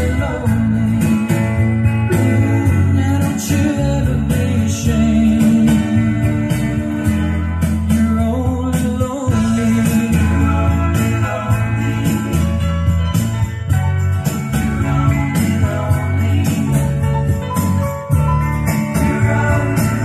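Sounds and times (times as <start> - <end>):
music with steady beat and deep bass: 0.0 - 20.0.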